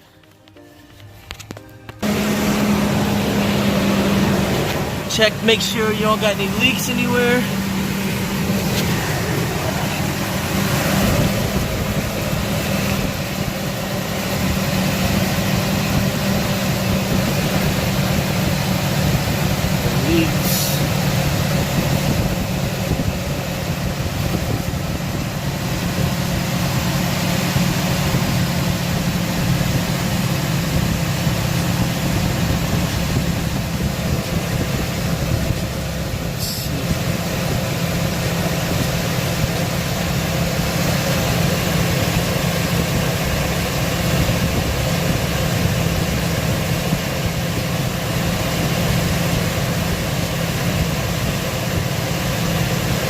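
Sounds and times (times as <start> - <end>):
truck engine idling: 0.0 - 53.0.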